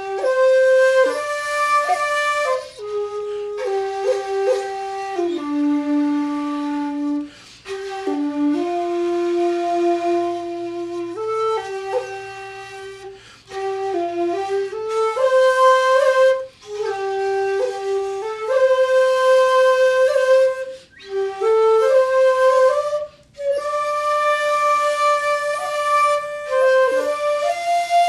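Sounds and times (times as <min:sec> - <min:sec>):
bamboo flutes playing slow melody: 0:00.0 - 0:28.0.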